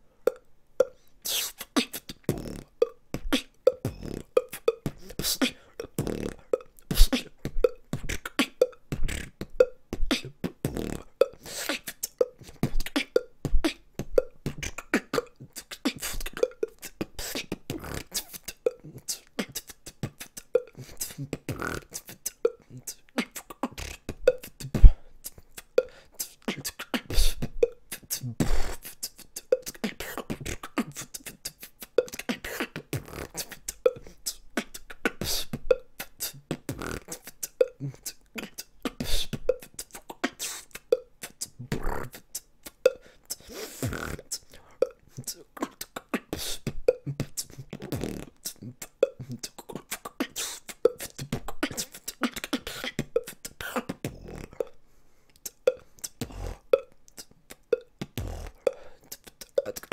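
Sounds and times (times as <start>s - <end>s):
person making mouth clicks and pops: 0.2s - 59.9s.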